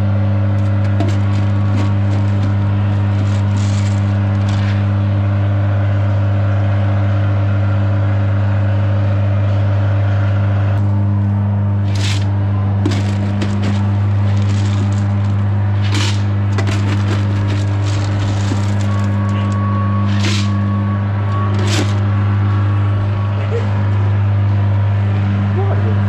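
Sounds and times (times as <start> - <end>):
loud machine hum: 0.0 - 26.0.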